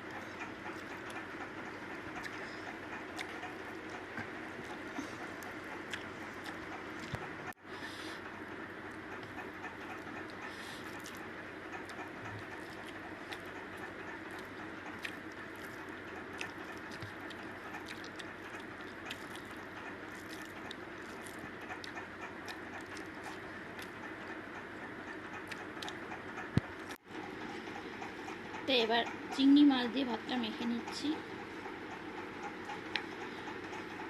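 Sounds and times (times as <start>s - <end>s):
eating clicks and smacks: 0.1s - 7.3s, 8.9s - 27.0s, 31.4s - 34.0s.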